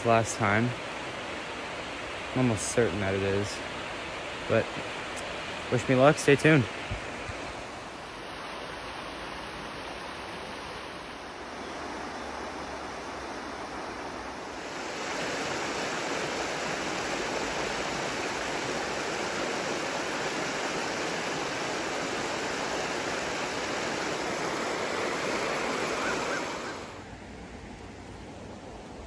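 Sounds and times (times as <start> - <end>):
river water rushing over rocks: 0.0 - 29.0.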